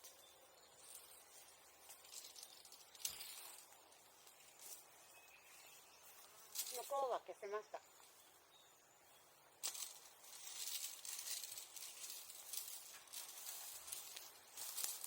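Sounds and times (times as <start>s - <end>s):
dry rustling hiss: 0.0s - 15.0s.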